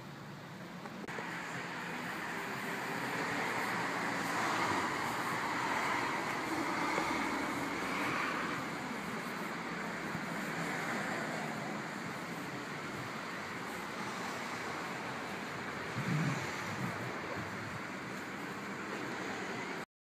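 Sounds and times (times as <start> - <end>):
road traffic rushing: 0.0 - 19.9.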